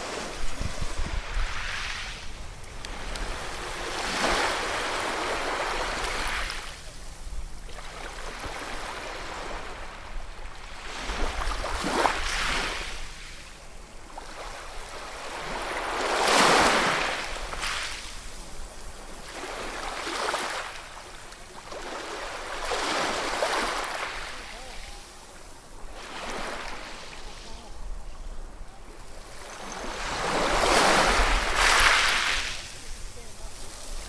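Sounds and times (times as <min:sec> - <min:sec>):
low rumble of surf: 0:00.0 - 0:34.0
ocean waves breaking on shore: 0:00.0 - 0:34.0.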